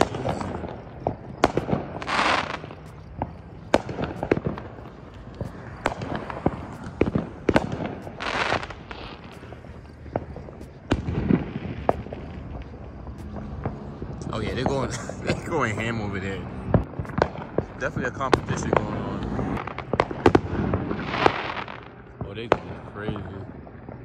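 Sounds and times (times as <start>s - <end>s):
fireworks hissing bursts: 0.0s - 21.9s
fireworks bangs and pops: 0.0s - 24.0s.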